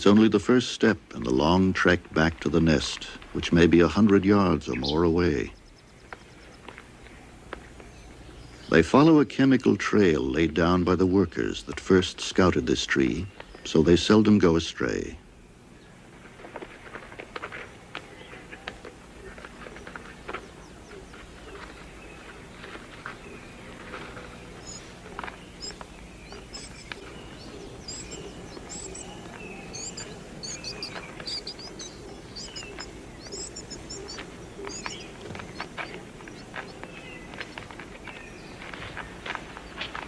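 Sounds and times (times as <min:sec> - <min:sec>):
low steady hum: 0:00.0 - 0:40.0
high chirping calls: 0:01.2 - 0:16.1, 0:18.0 - 0:40.0.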